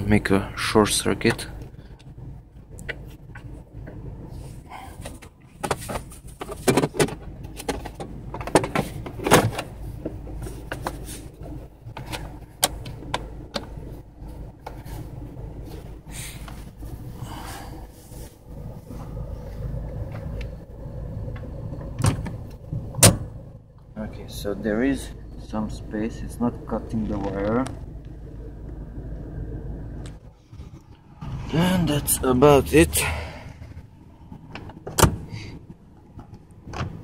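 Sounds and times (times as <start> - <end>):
diesel engine idling: 0.0 - 6.4, 7.2 - 36.7.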